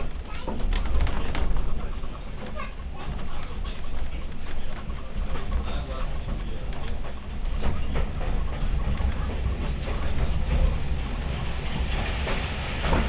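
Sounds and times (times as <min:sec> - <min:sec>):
railway carriage rumbling: 0:00.0 - 0:13.0
wheels clicking on rails: 0:00.0 - 0:13.0.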